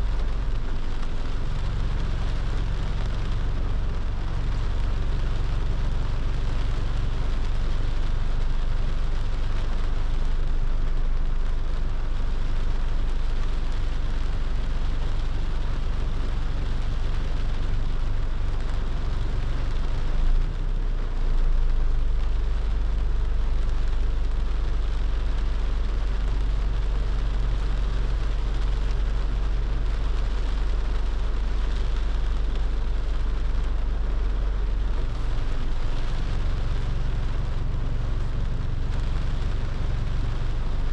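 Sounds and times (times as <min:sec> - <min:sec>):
car road and engine rumble: 0:00.0 - 0:40.9
rain on a moving car: 0:00.0 - 0:40.9.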